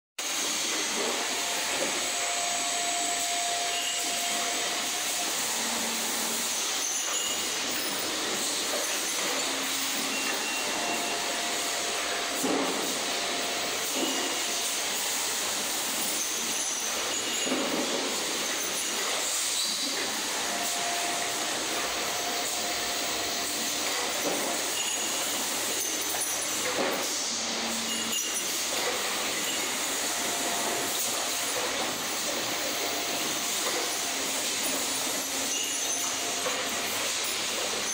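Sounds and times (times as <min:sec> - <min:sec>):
assembly machines running: 0:00.2 - 0:37.9.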